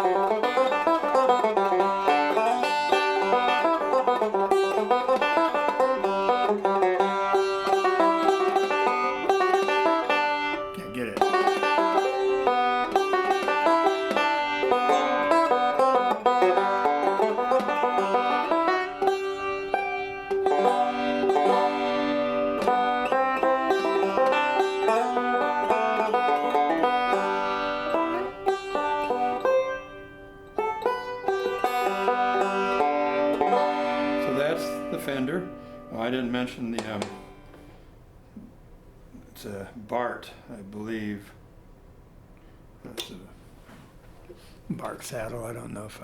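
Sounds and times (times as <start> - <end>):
banjo playing a tune: 0.0 - 37.9.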